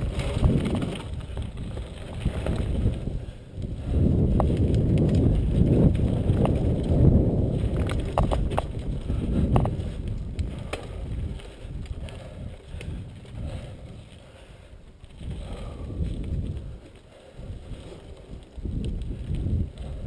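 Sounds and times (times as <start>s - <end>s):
bike rattling clicks: 0.0s - 20.0s
bike tyres rumbling over dirt: 0.0s - 20.0s
wind buffeting microphone: 0.0s - 20.0s.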